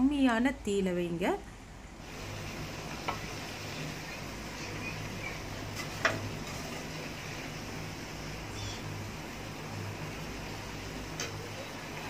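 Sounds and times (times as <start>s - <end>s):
chicken sizzling in frying oil: 2.0s - 12.0s.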